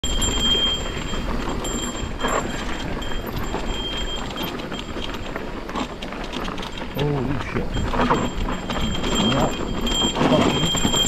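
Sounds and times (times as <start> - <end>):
thin high tone: 0.0 - 5.3, 7.0 - 11.0
bike tyres rumbling on dirt: 0.0 - 11.0
knocks and rattles: 0.0 - 11.0.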